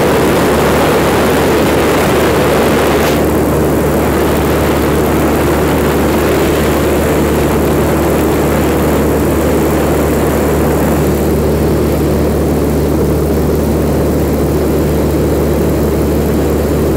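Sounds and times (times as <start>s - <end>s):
rushing air noise: 0.0s - 13.8s
propeller airplane engine droning: 0.0s - 16.9s.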